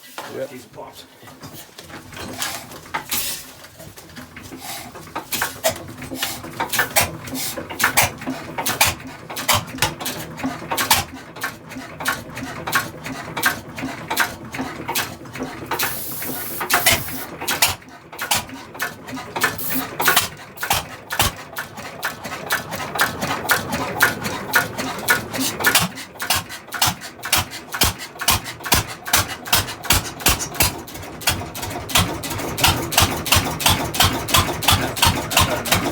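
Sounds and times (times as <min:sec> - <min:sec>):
old engine firing pops: 0:05.0 - 0:35.9.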